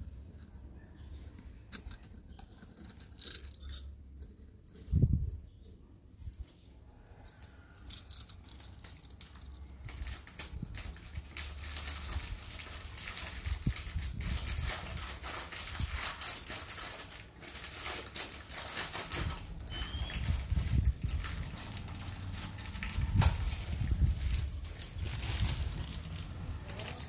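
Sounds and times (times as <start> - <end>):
handling rustle: 0.2 - 27.0
glass bangles clinking: 1.7 - 4.9, 6.3 - 19.1, 21.3 - 27.0.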